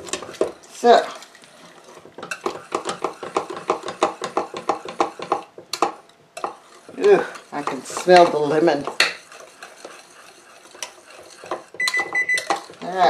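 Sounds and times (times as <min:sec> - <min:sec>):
whisk clicking against metal pot: 0:02.1 - 0:13.0.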